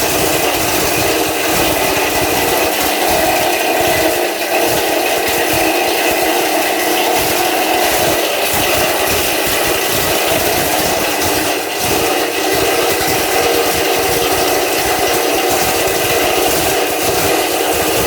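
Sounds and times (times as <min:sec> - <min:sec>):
fast uneven low knocking: 0:00.0 - 0:18.0.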